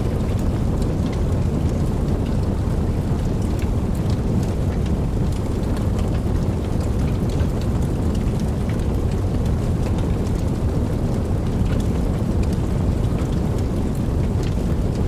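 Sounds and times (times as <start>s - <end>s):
raindrop ticks: 0.0s - 15.0s
steady rainfall: 0.0s - 15.0s.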